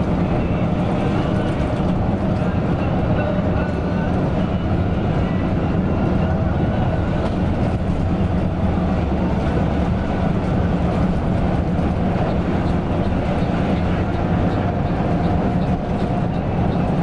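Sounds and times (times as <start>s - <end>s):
bus engine drone: 0.0s - 17.0s
road and tyre noise: 0.0s - 17.0s.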